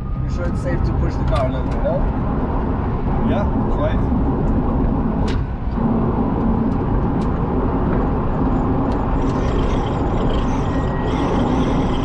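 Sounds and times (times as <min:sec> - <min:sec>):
road and tyre noise in car cabin: 0:00.0 - 0:12.0.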